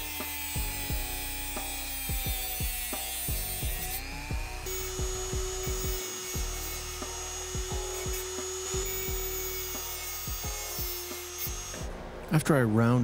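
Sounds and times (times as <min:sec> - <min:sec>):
rotary tool whine: 0:00.0 - 0:11.9
wire grinding against wheel: 0:00.0 - 0:11.9.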